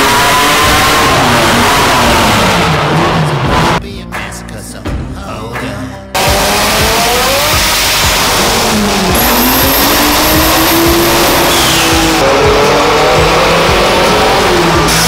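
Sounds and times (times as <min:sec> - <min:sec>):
car engine revving: 0:00.0 - 0:03.8, 0:06.2 - 0:15.0.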